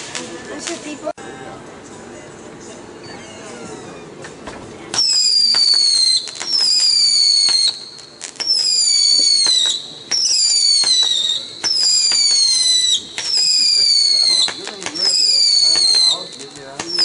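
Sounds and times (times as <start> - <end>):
whistling fireworks: 0.0 - 1.0, 3.0 - 17.0
firework pops and crackles: 0.0 - 1.1, 3.6 - 17.0.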